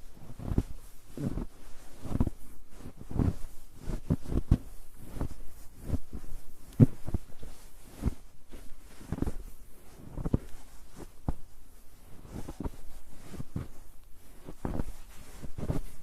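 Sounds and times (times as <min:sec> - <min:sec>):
footsteps in snow: 0:00.0 - 0:16.0.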